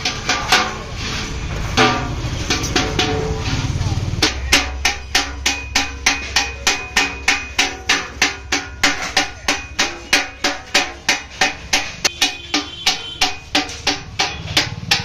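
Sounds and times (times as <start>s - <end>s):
hammer striking metal bucket: 0.0s - 15.0s.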